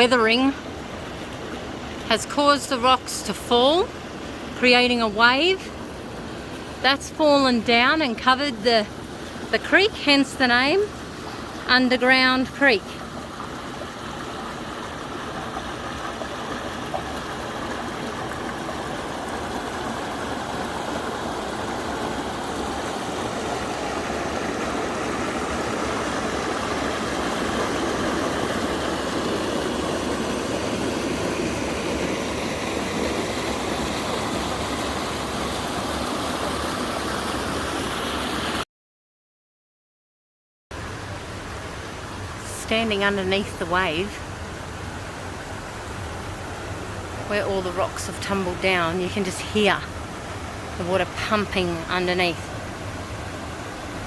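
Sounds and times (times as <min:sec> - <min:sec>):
creek water rushing over boulders: 0:00.0 - 0:38.6, 0:40.8 - 0:54.0.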